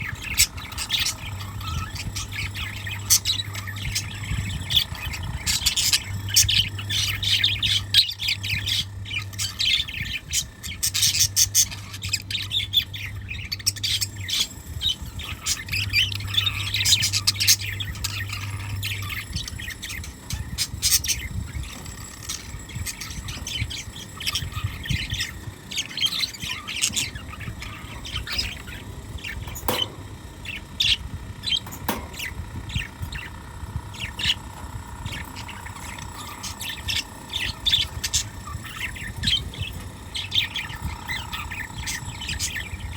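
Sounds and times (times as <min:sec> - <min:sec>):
birds chirping and squawking: 0:00.0 - 0:42.9
low hum: 0:00.0 - 0:42.9.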